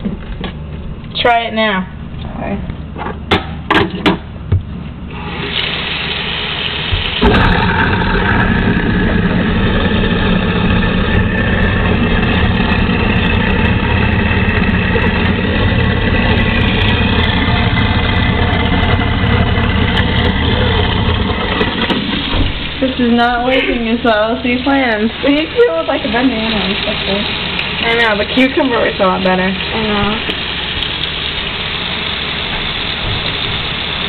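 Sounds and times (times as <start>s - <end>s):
garbage disposal grinding: 5.0s - 34.0s.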